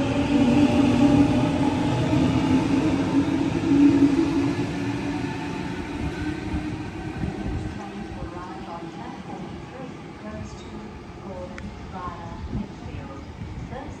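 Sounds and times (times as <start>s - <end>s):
electric train humming drone: 0.0s - 14.0s.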